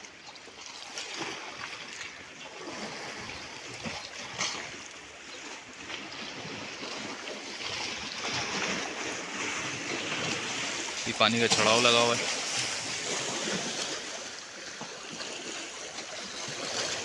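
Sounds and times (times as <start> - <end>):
water lapping against rocks: 0.0 - 17.0.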